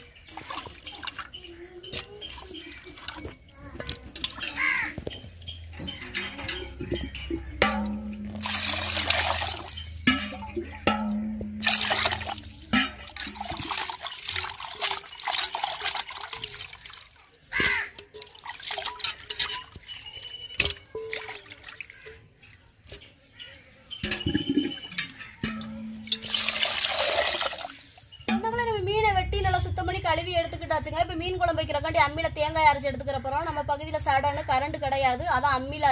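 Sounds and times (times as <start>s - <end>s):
water sloshing in a metal bowl: 0.0s - 35.9s.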